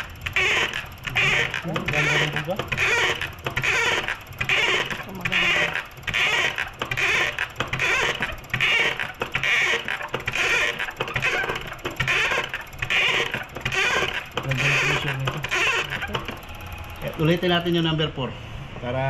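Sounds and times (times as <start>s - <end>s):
fuel injector hissing pulses: 0.0s - 18.0s.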